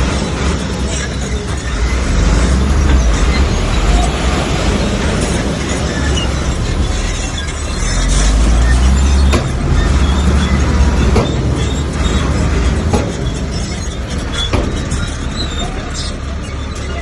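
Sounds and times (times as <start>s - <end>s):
bulldozer diesel engine rumbling: 0.0s - 17.0s
steel tracks squealing and clanking: 0.0s - 17.0s.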